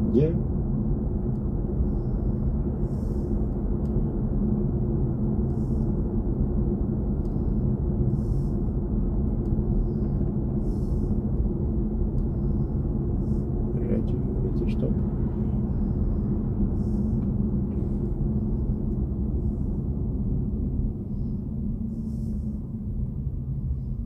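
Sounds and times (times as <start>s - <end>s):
road and tyre rumble in car: 0.0s - 24.0s.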